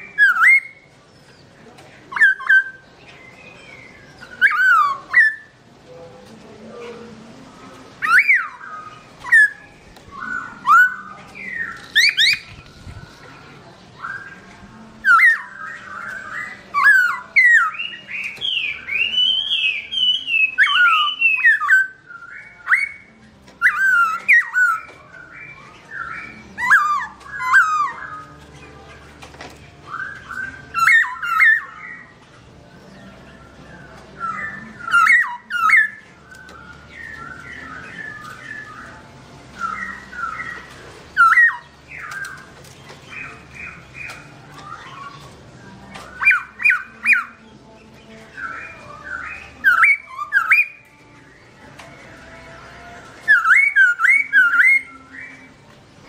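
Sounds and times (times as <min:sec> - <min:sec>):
bird singing whistled phrases: 0:00.0 - 0:01.5, 0:02.1 - 0:05.6, 0:08.0 - 0:13.0, 0:14.0 - 0:28.5, 0:29.8 - 0:32.2, 0:32.8 - 0:42.5, 0:43.1 - 0:47.4, 0:48.3 - 0:51.4, 0:53.2 - 0:55.6.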